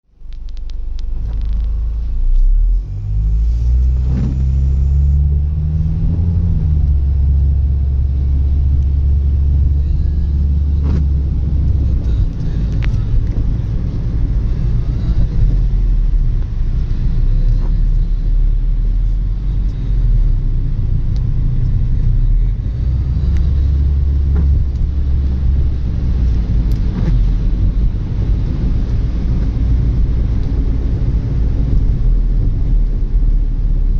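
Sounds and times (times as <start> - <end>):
vehicle low rumble: 0.0 - 33.9.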